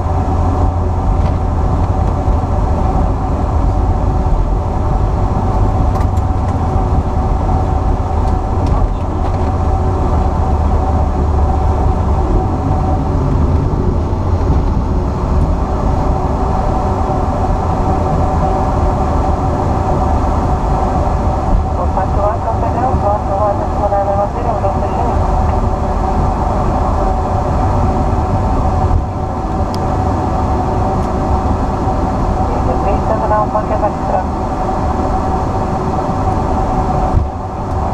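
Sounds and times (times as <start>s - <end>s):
jet rolling on runway rumble: 0.0s - 37.9s
steady cockpit hum: 0.0s - 37.9s.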